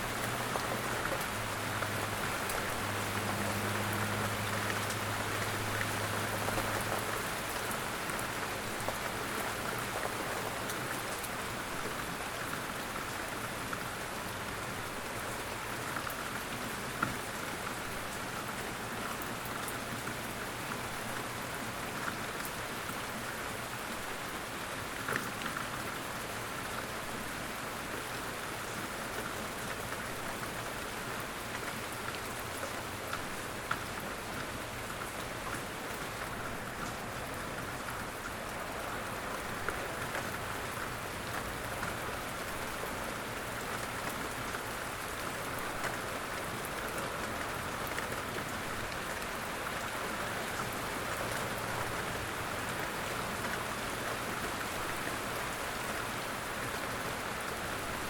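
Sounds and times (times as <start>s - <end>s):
light rain patter: 0.0s - 58.0s.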